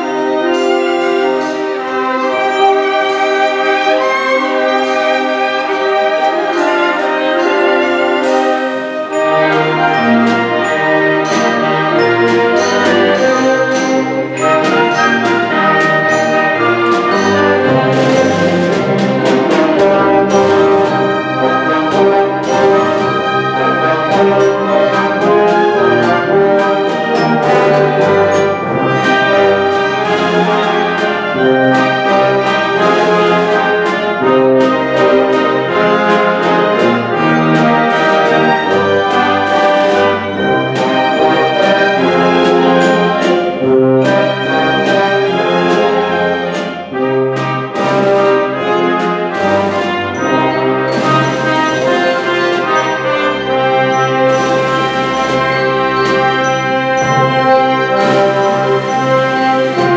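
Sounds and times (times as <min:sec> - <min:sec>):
brass chords: 0:00.0 - 0:59.9
sharp percussion strikes: 0:00.0 - 0:59.9
strings: 0:00.0 - 0:59.9.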